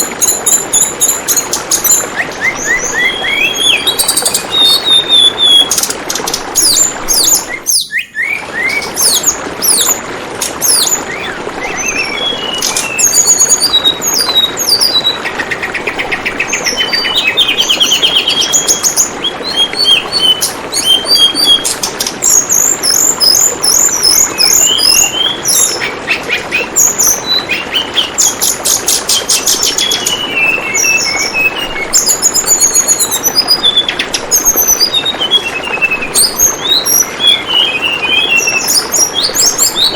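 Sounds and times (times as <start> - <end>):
bird chirping and trilling: 0.0 - 39.9
flowing water trickling: 0.0 - 39.9.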